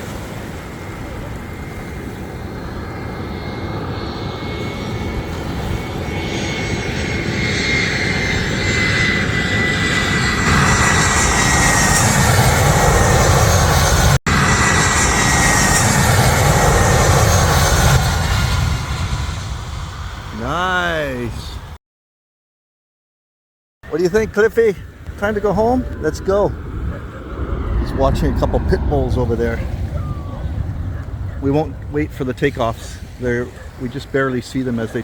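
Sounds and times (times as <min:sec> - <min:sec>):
jet airliner landing approach: 0:00.0 - 0:21.8, 0:23.9 - 0:35.0
jet engine whine: 0:00.0 - 0:21.8, 0:23.9 - 0:35.0.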